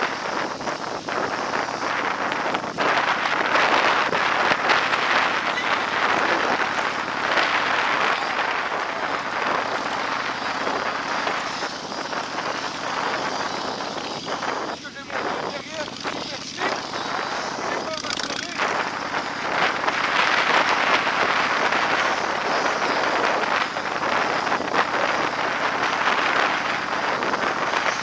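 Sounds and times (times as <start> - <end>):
road noise: 0.0 - 28.0
wind rushing at microphone: 0.0 - 28.0.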